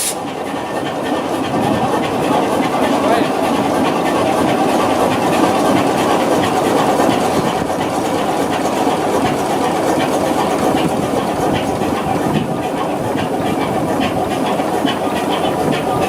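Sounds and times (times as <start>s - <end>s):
diesel engine clattering: 0.0s - 16.0s.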